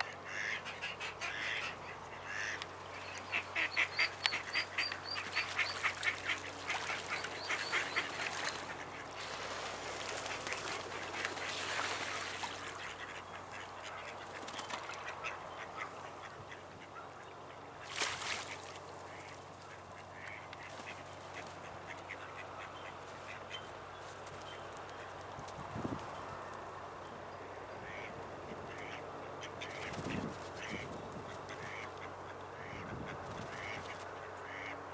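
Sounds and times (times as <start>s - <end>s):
ducks calling: 0.0s - 25.2s, 27.5s - 34.9s.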